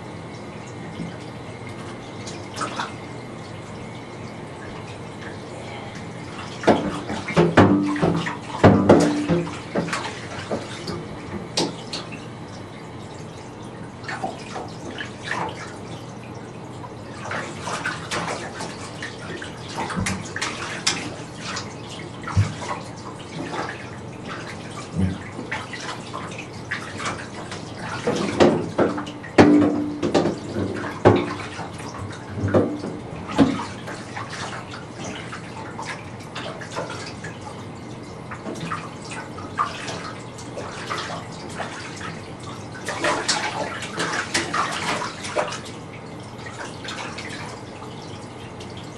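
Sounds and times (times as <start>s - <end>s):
water splashing in a bathtub: 0.0s - 48.9s.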